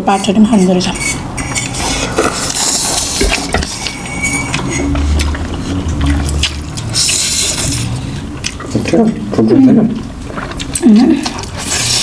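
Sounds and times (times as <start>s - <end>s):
slurping and chewing noodles: 1.1s - 9.4s, 10.0s - 12.0s.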